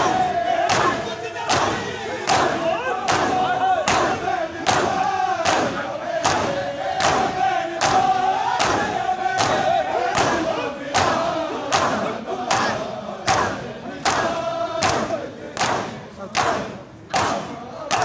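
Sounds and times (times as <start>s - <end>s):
hands slapping chests in unison: 0.0s - 18.0s
men chanting a lament: 0.0s - 18.0s.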